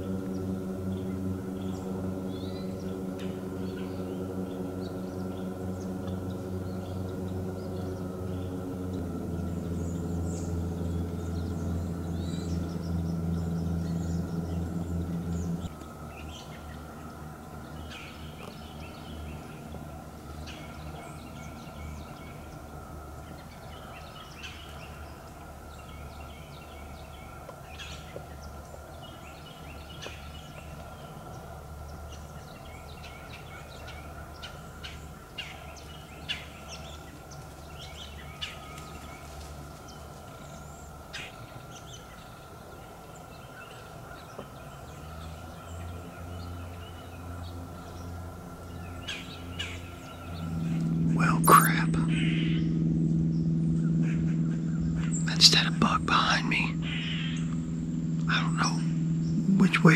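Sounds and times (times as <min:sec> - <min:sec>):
bird calls and chirps: 0:00.0 - 0:59.9
steady low hum: 0:00.0 - 0:59.9.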